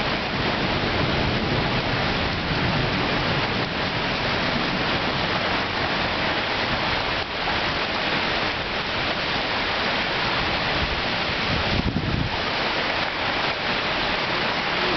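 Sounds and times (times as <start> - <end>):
heavy rain hissing: 0.0 - 14.9.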